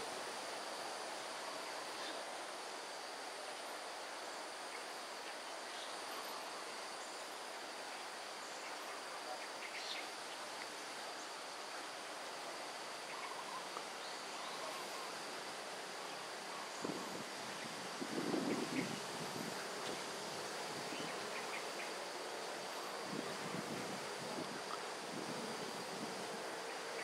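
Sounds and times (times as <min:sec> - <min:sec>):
even hiss: 0:00.0 - 0:27.0
high-pitched insect drone: 0:00.0 - 0:27.0.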